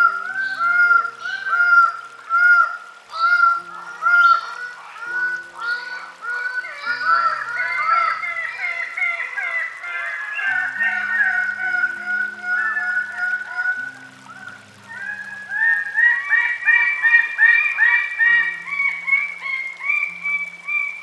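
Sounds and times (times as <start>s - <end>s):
birds calling loudly: 0.0s - 21.0s
soft background music: 0.0s - 21.0s.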